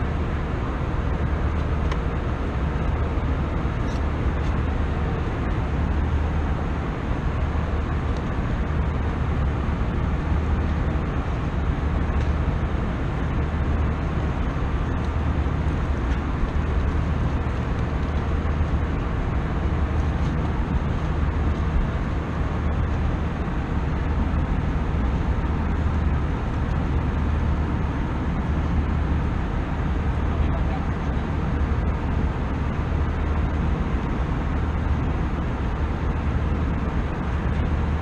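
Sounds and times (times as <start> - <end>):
airliner cabin engine rush: 0.0 - 38.0
constant low hum: 0.0 - 38.0.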